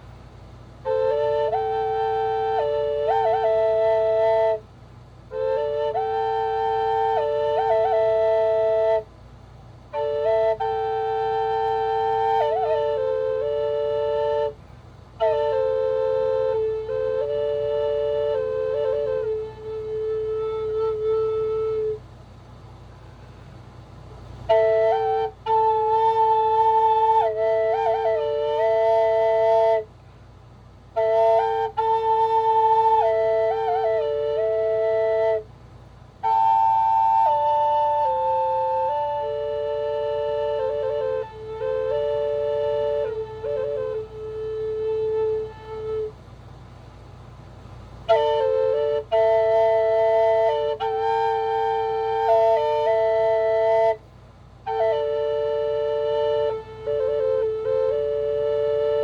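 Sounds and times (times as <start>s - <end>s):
flute playing slow melody: 0.0s - 22.2s, 24.2s - 46.4s, 47.7s - 59.0s.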